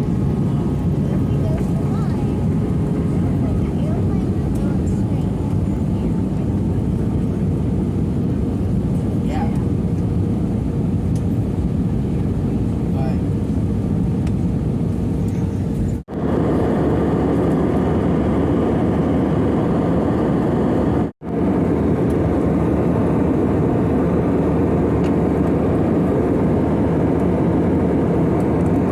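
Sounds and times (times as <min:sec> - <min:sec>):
airplane noise: 0:00.0 - 0:28.9.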